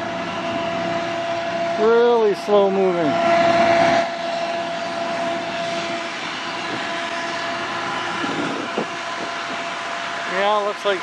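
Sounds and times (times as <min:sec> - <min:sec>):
diesel locomotives droning: 0:00.0 - 0:11.0
rush of noise: 0:00.0 - 0:11.0.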